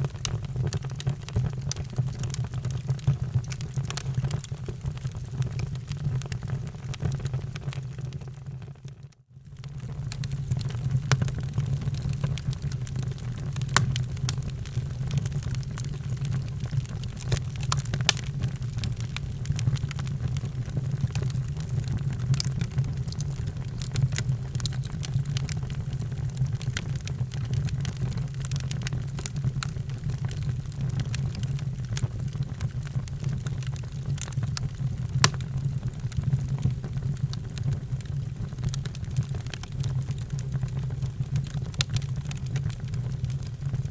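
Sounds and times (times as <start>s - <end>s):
wood fire crackling: 0.0s - 8.4s, 9.6s - 43.9s.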